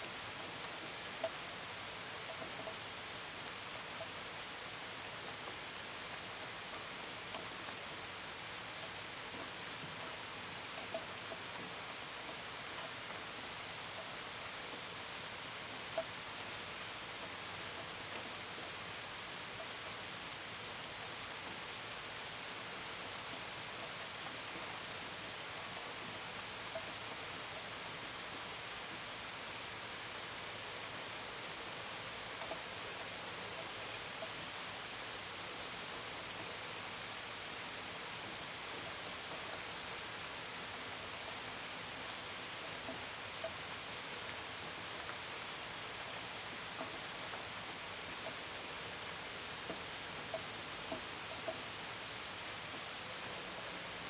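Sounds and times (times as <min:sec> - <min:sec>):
gentle rain: 0:00.0 - 0:54.0.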